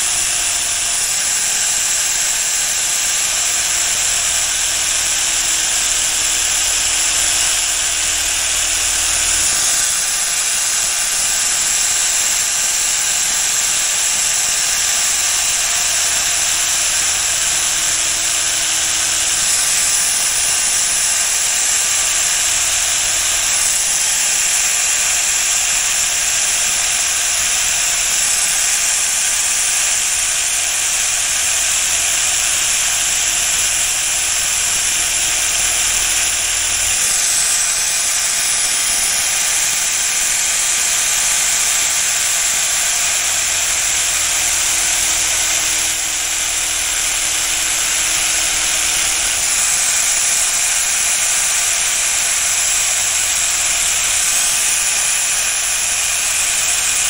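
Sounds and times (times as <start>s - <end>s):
power sander grinding metal: 0.0s - 57.0s.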